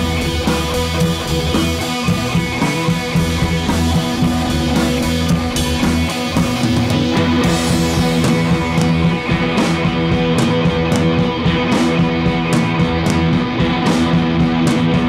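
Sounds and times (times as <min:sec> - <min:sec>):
rock music: 0:00.0 - 0:15.0.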